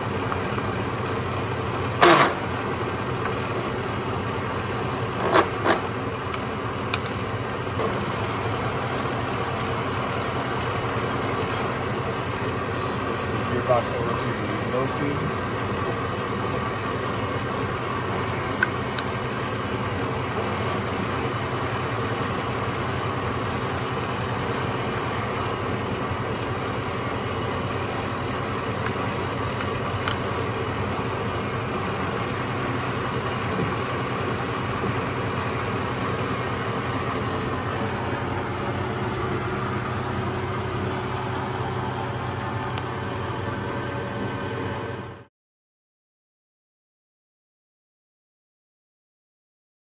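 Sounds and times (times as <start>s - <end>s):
milling machine geared hum: 0.0s - 45.2s.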